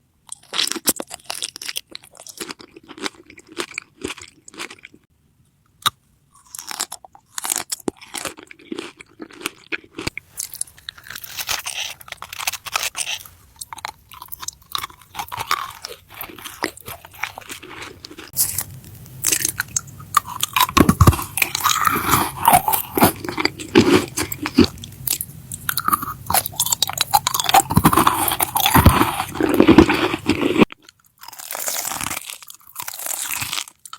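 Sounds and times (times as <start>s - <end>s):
person chewing crunchy food: 0.3s - 5.0s, 5.8s - 33.9s.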